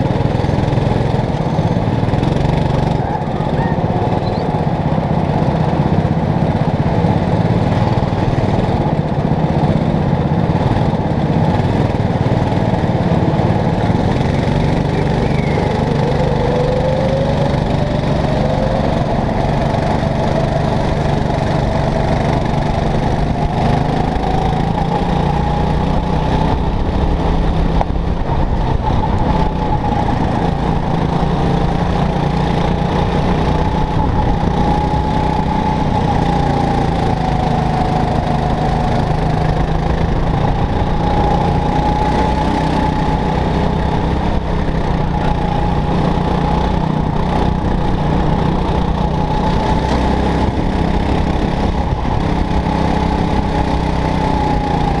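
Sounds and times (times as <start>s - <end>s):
go-kart engine whining: 0.0s - 55.0s.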